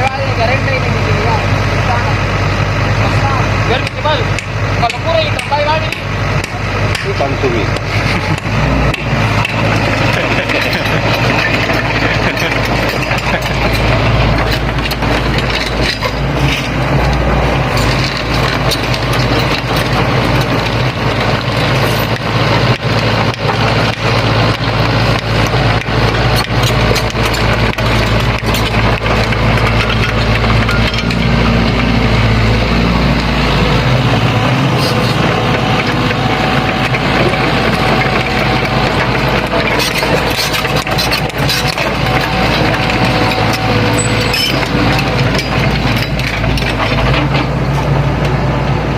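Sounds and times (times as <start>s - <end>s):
excavator diesel engine running: 0.0s - 48.9s
stones knocking and scraping: 3.8s - 47.6s.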